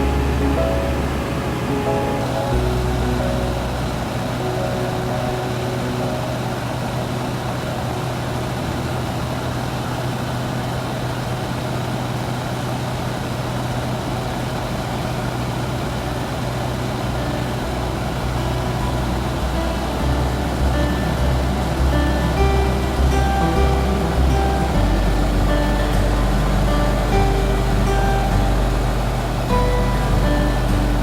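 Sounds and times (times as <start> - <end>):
rushing road noise: 0.0 - 31.0
vehicle engine drone: 0.0 - 31.0.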